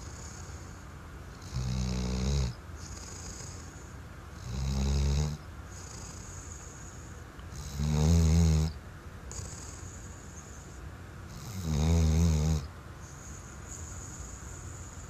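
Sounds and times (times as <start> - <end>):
dog snoring: 0.0 - 15.0.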